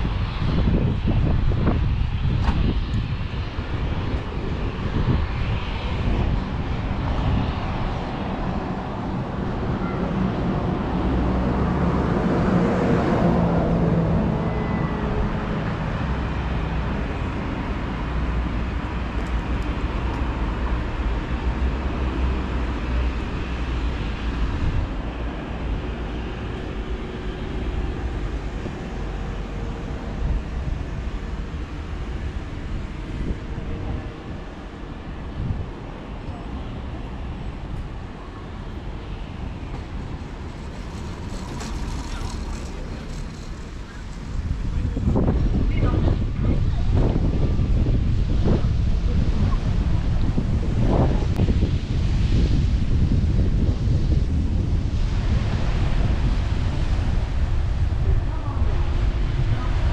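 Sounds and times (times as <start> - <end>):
wind buffeting microphone: 0.0 - 59.9
engine passing: 3.4 - 52.6.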